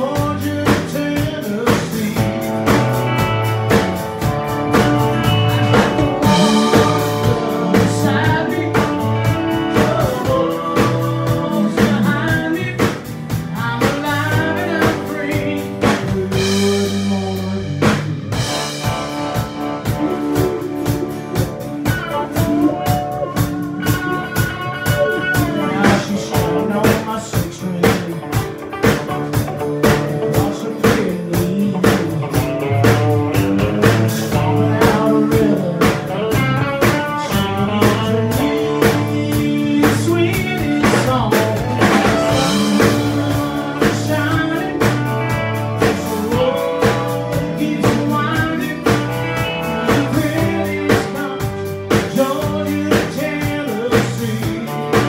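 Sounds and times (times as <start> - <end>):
drum kit beat: 0.0 - 55.0
live country band playing: 0.0 - 55.0
sliding guitar lead line: 0.0 - 55.0.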